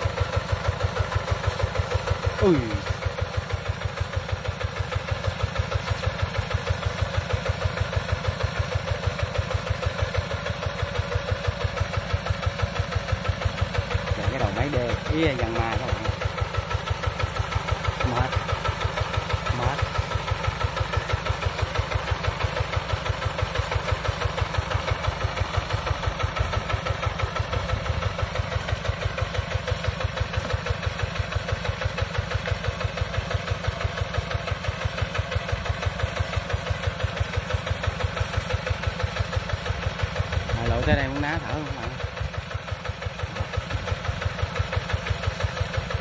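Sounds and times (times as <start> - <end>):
diesel engine running steadily: 0.0 - 46.0.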